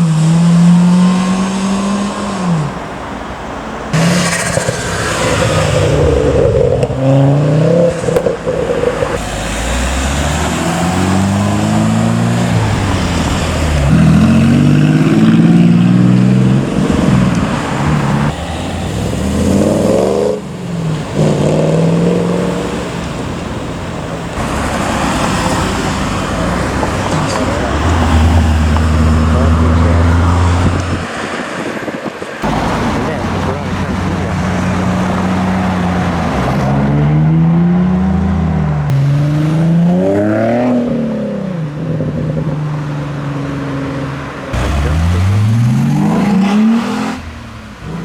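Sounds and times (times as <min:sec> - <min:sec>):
car engines accelerating hard: 0:00.0 - 0:48.0
road traffic noise: 0:00.0 - 0:48.0.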